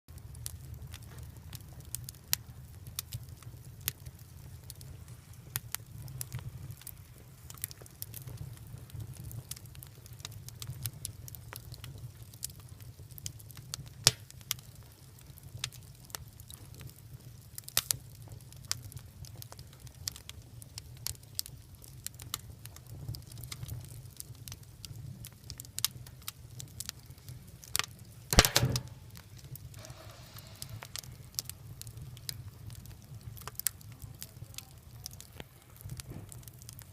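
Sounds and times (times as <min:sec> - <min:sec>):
wood fire crackling and popping: 0:00.1 - 0:36.9.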